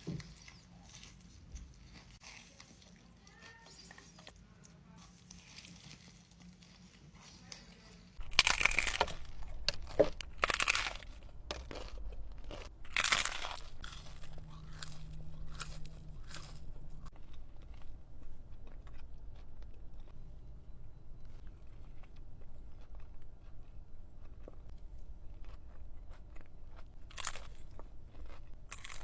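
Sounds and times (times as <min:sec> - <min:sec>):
crunching food: 0:00.0 - 0:29.0.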